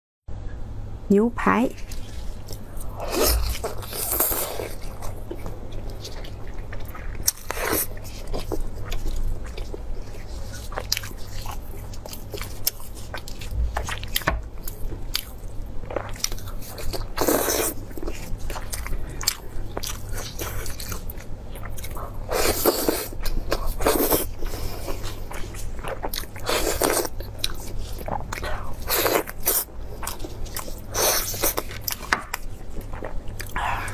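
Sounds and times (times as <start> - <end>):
biting and chewing: 1.8 - 33.9.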